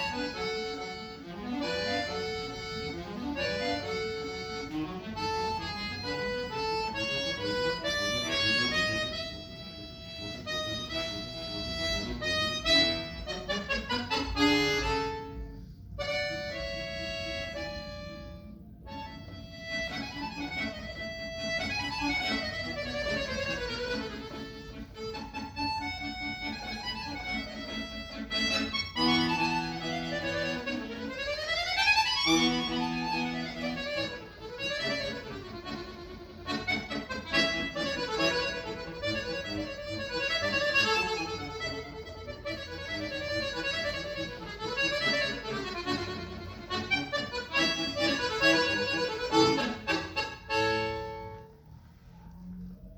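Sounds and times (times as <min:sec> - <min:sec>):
accordion playing: 0:00.0 - 0:52.4.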